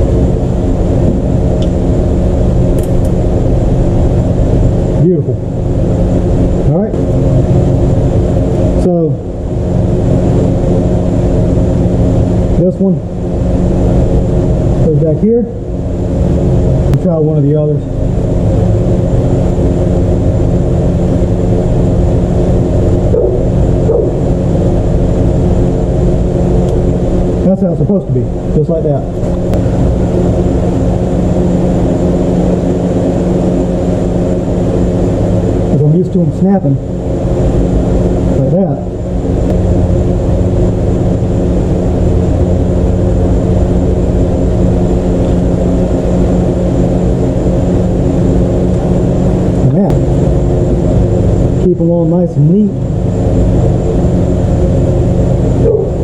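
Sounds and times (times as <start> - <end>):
loud mechanical drone: 0.0 - 56.0.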